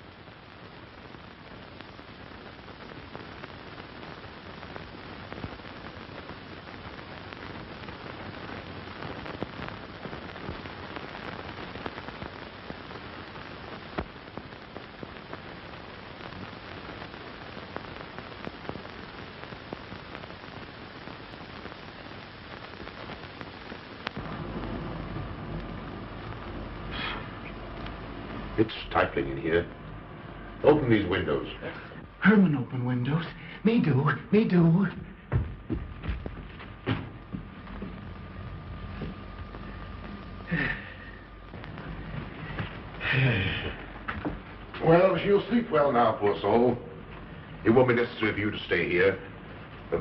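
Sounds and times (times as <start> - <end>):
faint crackles and clicks: 0.0 - 50.0
film soundtrack surface hiss: 0.0 - 50.0.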